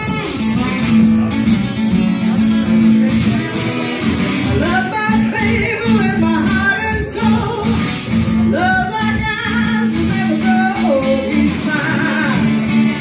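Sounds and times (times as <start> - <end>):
acoustic guitar strumming: 0.0 - 13.0
woman singing: 2.2 - 13.0.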